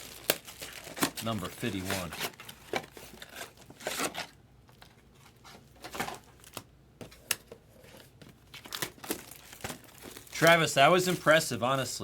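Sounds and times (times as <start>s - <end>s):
packaging crinkling and rustling: 0.0s - 6.6s, 7.2s - 11.4s.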